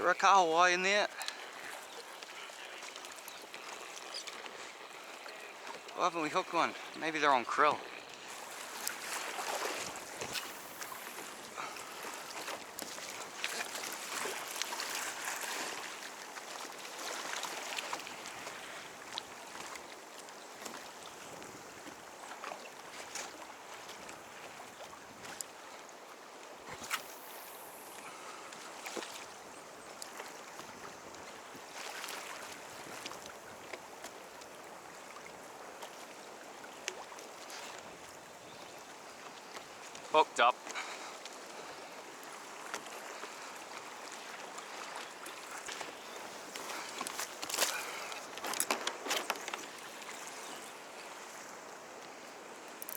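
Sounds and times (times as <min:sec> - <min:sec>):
water lapping against a hull: 0:00.0 - 0:52.8
light knocks and clicks from boat: 0:01.1 - 0:06.0, 0:06.6 - 0:52.9.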